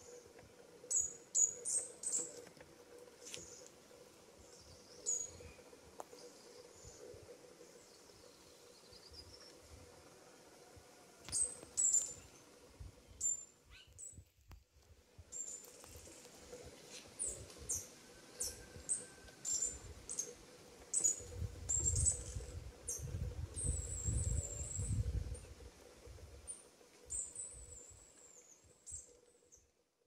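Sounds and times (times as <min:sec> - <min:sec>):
small birds chirping: 0:00.0 - 0:10.0, 0:11.3 - 0:14.2, 0:15.3 - 0:29.7.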